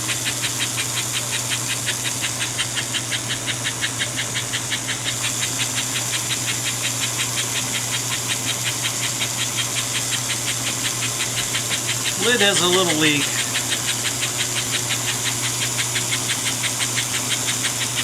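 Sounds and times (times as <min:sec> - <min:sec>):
toy locomotive motor humming: 0:00.0 - 0:18.0.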